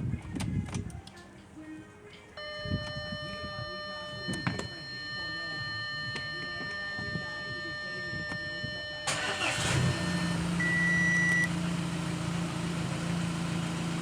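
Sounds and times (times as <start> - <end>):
car engine starting and running: 2.4 - 14.0.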